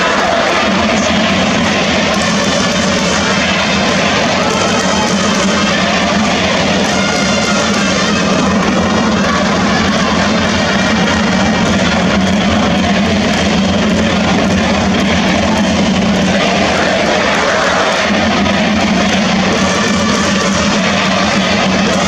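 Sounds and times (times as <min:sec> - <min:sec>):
stadium crowd cheering: 0:00.0 - 0:22.0.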